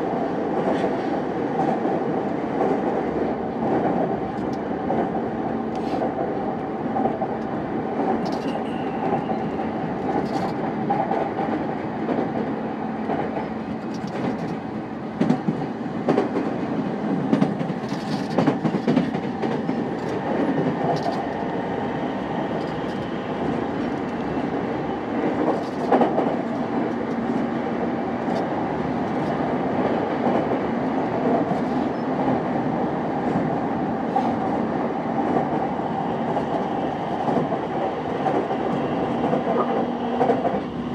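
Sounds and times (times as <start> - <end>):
wheels rumbling on rail: 0.0 - 40.9.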